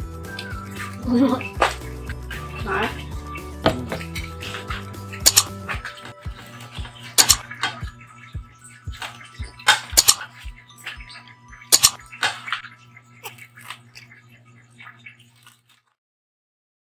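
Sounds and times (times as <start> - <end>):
background music with steady beat: 0.0 - 14.8.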